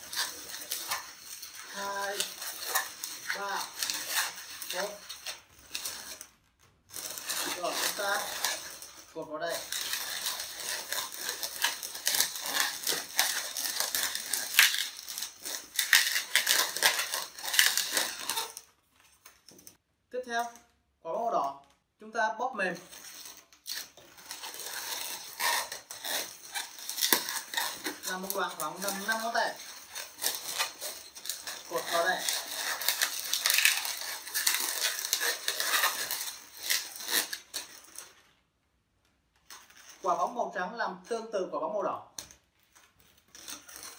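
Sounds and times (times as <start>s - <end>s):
balloons squeaking and rubbing: 0.0s - 19.8s, 22.6s - 38.4s, 42.4s - 43.9s.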